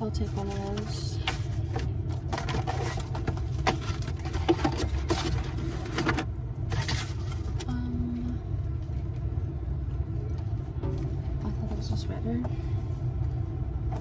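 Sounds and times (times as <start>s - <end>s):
car cabin low rumble: 0.0s - 14.0s.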